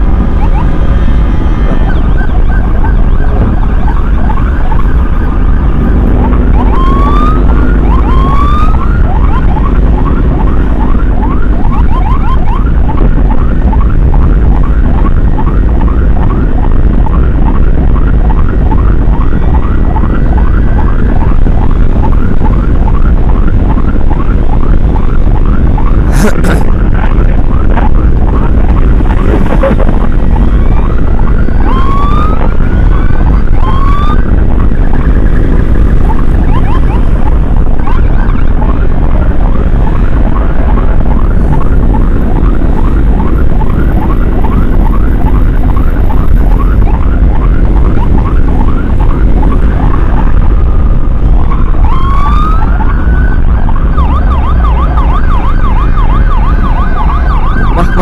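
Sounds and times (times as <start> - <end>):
emergency siren: 0.0 - 58.0
wind and road noise rumble: 0.0 - 58.0.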